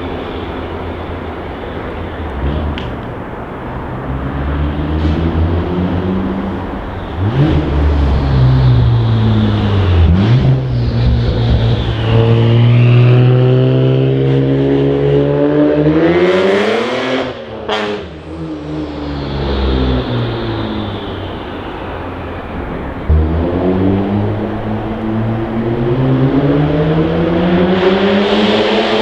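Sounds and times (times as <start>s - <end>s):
car exhaust under load: 0.0s - 14.8s, 18.0s - 29.0s.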